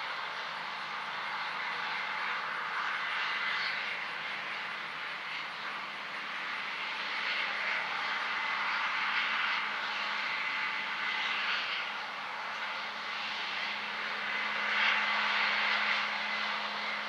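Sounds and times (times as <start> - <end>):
faint steady whine: 0.0 - 17.0
machinery mechanical drone: 0.0 - 17.0.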